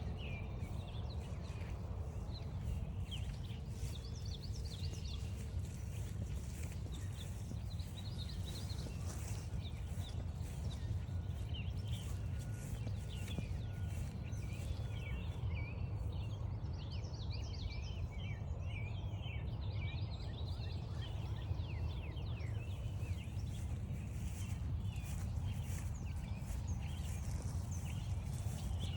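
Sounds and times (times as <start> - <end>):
steady low rumble: 0.0 - 16.8, 20.8 - 28.9
songbirds chirping and singing: 0.0 - 28.9.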